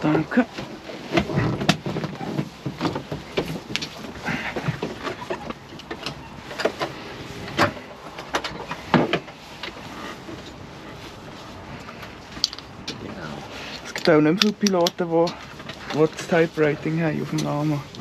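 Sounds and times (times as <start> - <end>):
clicks and knocks of handling: 0.0 - 10.6, 11.8 - 18.0.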